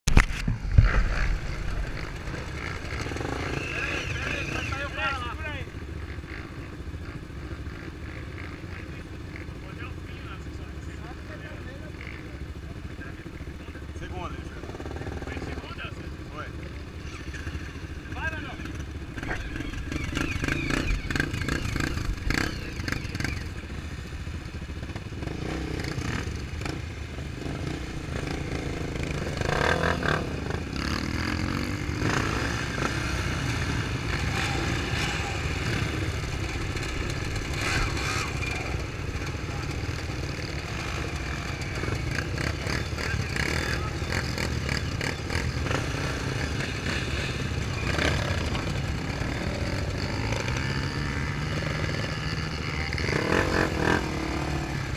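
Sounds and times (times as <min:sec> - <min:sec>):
off-road vehicle engine revving: 0:00.1 - 0:54.9.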